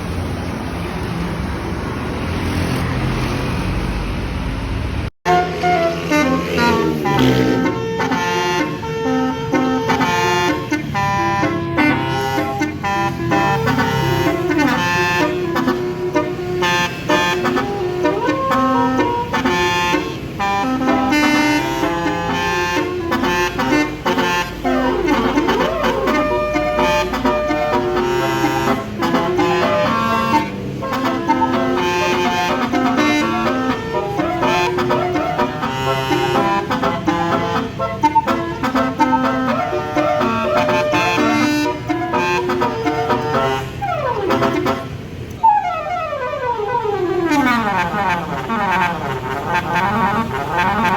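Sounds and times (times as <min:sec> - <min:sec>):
musical bus horn melody: 0:05.2 - 0:50.9.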